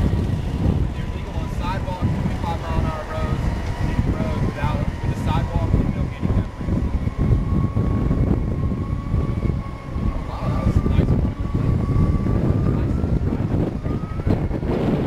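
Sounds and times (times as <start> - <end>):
electric drive whining: 0.0 - 15.0
wind buffeting microphone: 0.0 - 15.0.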